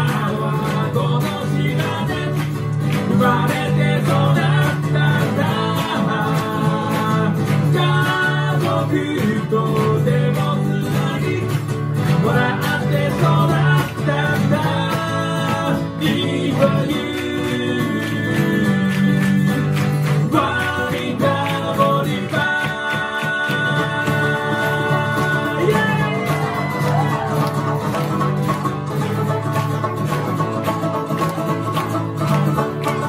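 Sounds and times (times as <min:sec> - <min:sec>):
person singing: 0:00.0 - 0:28.5
strummed acoustic guitars: 0:00.0 - 0:33.0.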